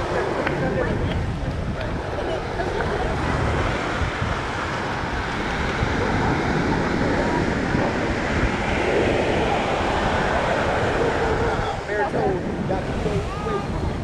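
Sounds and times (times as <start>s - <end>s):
surf waves washing onto sand: 0.0s - 14.0s
wind buffeting microphone: 0.0s - 14.0s.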